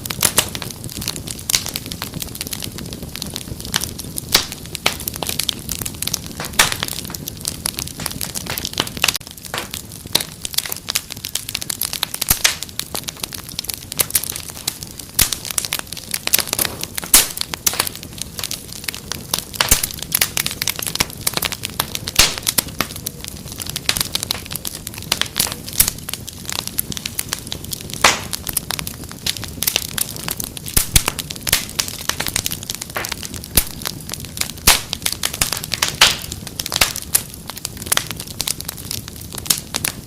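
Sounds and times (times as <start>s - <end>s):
fire crackling: 0.0s - 40.0s.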